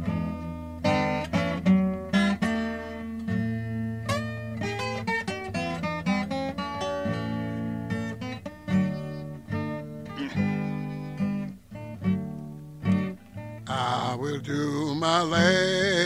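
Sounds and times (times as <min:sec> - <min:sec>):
solo acoustic guitar picking: 0:00.0 - 0:16.0.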